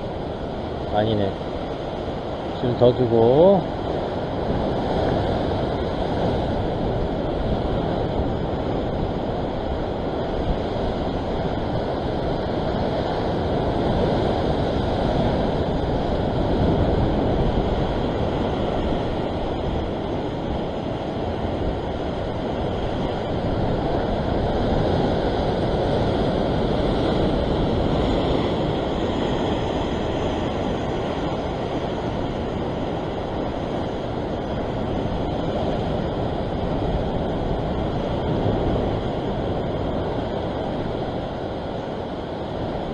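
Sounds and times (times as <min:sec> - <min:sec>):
surf washing against rocks: 0:00.0 - 0:42.9
wind rumble on microphone: 0:00.0 - 0:42.9.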